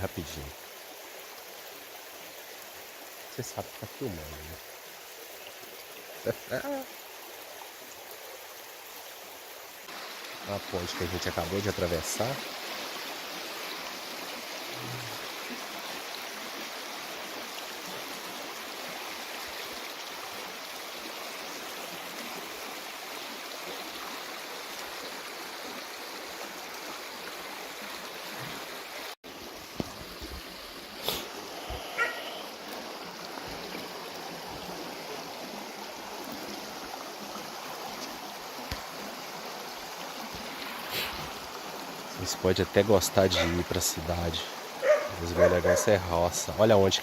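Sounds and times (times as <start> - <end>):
creek water running: 0.0 - 47.0.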